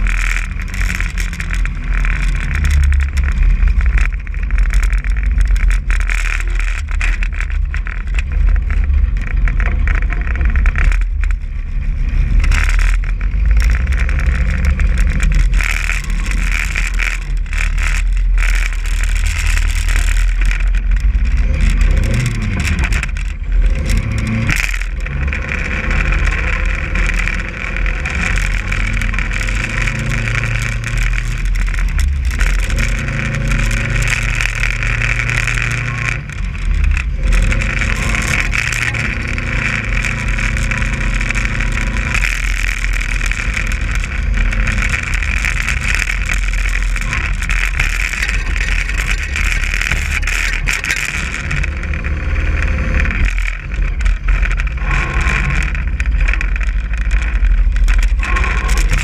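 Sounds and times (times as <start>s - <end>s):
car engine revving: 0.0s - 59.0s
rushing noise of moving car: 0.0s - 59.0s.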